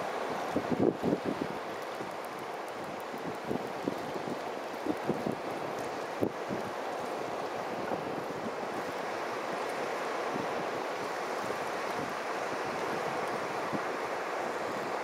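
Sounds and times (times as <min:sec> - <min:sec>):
surf rushing on beach: 0:00.0 - 0:15.0.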